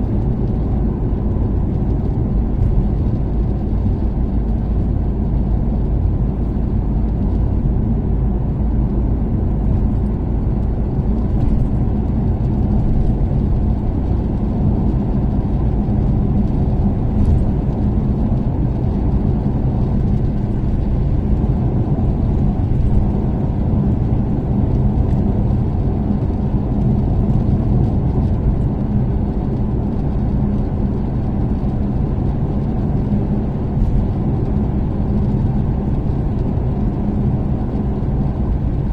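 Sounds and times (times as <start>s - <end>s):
car engine cruising: 0.0s - 38.9s
road noise: 0.0s - 38.9s.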